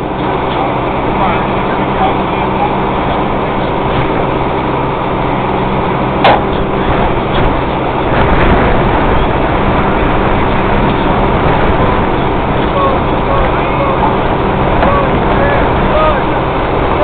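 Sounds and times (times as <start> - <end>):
fire engine motor running: 0.0 - 17.0.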